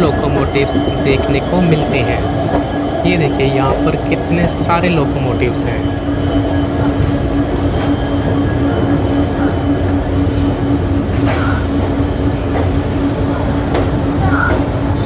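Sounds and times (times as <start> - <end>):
train rolling rumble with drone: 0.0 - 15.0.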